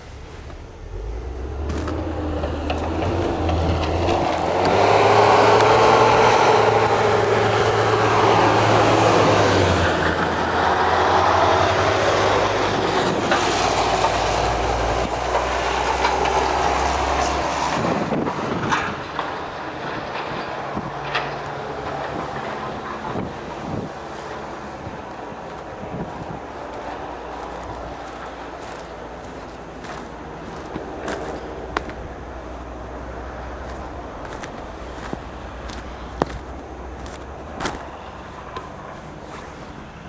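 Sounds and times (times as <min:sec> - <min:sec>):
large vehicle engine humming: 0:00.0 - 0:40.0.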